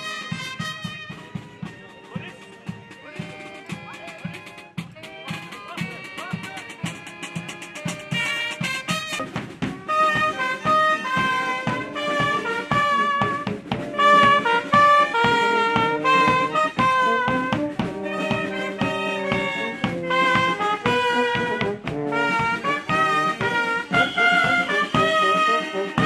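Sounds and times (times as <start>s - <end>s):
steady drum beat: 0.0s - 26.0s
trumpets playing melody: 0.0s - 26.0s.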